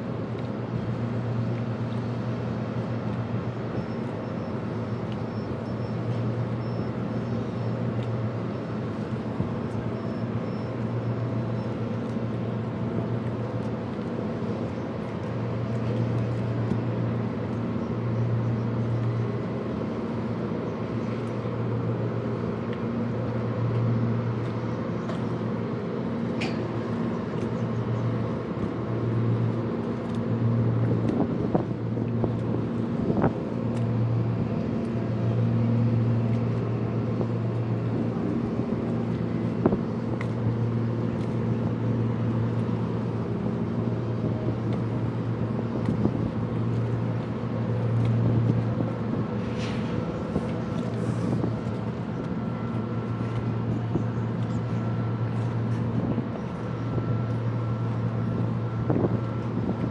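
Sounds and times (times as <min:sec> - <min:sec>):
low engine drone: 0:00.0 - 0:59.9.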